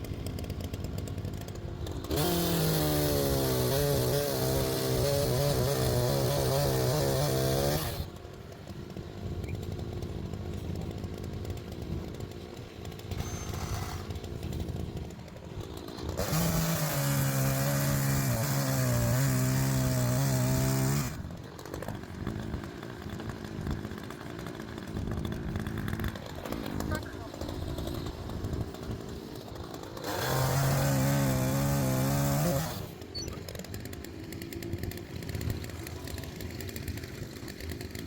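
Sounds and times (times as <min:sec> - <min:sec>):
chainsaw cutting logs: 0:00.0 - 0:38.0
chainsaw engine idling: 0:00.0 - 0:38.0.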